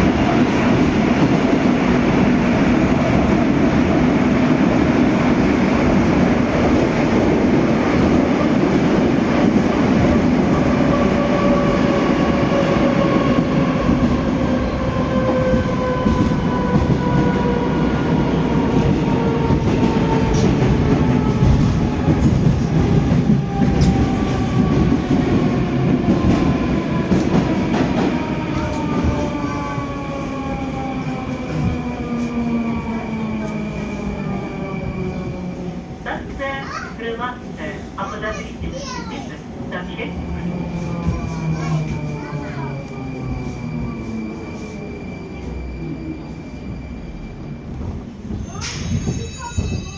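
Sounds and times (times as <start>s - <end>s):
train rumble and wheel clatter: 0.0s - 49.9s.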